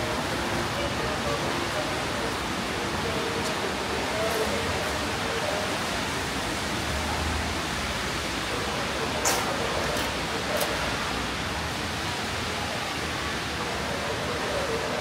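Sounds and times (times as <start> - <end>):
rain on street: 0.0 - 15.0.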